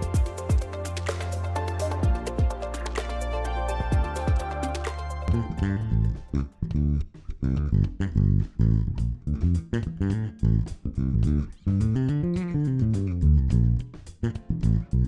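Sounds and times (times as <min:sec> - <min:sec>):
background music with bass and guitar: 0:00.0 - 0:15.0.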